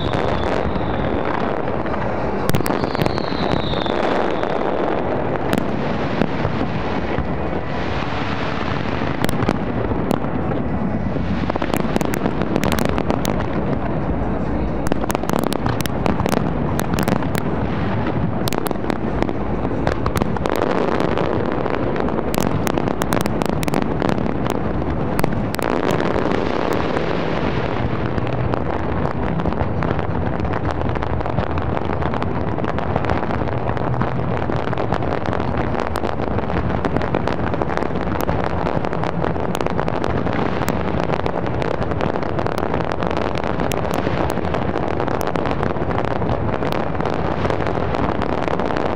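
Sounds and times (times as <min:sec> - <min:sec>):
constant rumble: 0:00.0 - 0:48.9
fireworks bursting and crackling: 0:00.0 - 0:48.9.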